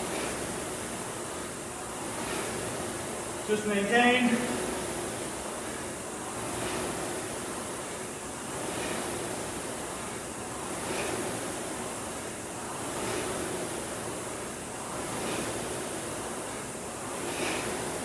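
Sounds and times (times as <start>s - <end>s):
rowing machine fan whooshing: 0.0s - 18.0s.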